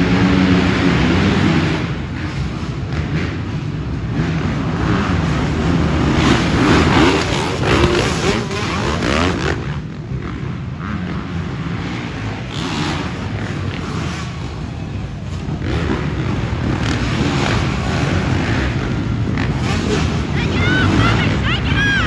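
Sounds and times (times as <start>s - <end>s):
motocross bikes revving past: 0.0s - 22.0s.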